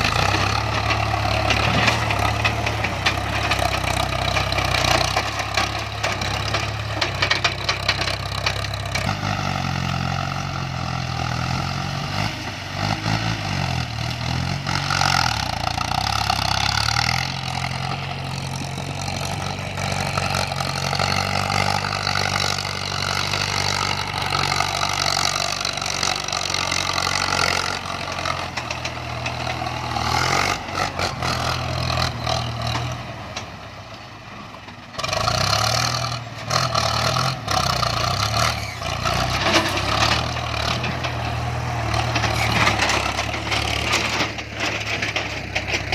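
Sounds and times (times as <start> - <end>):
diesel engine idling and revving: 0.0 - 45.9.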